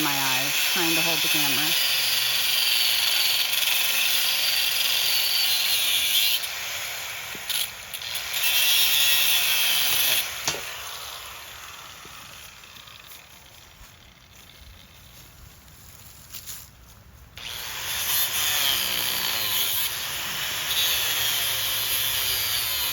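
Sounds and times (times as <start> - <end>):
angle grinder cutting steel: 0.0 - 14.6, 17.4 - 22.9.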